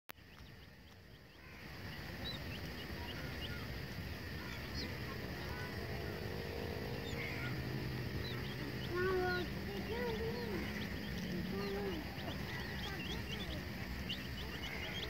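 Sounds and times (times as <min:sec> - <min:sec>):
chick peeping: 0:00.2 - 0:15.0
low background rumble: 0:00.2 - 0:15.0.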